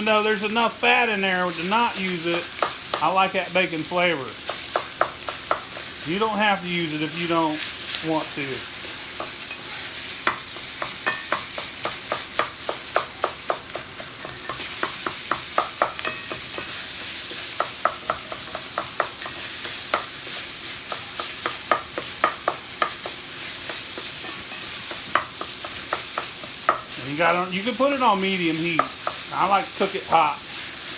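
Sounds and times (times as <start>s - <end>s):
sausage sizzling in a skillet: 0.0s - 30.9s.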